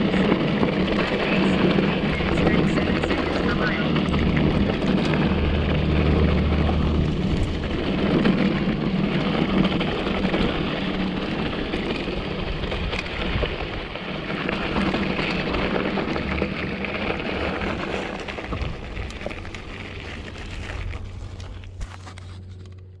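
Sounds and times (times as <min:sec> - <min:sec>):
wind rush on microphone: 0:00.0 - 0:21.9
bike rattles and clicks: 0:00.0 - 0:23.0
tyres crunching on gravel: 0:00.0 - 0:23.0.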